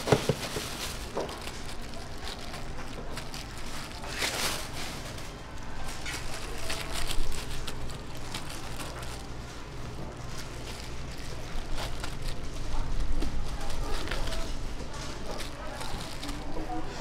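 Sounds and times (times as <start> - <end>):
crinkling rustle: 0.0 - 17.0
low background hum: 0.0 - 17.0
plastic gloves rustling: 0.0 - 17.0.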